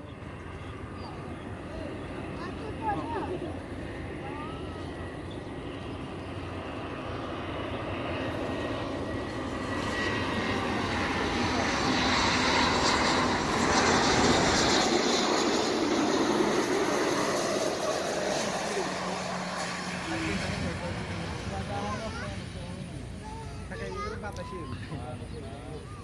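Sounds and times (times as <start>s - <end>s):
jet whine: 0.0s - 26.0s.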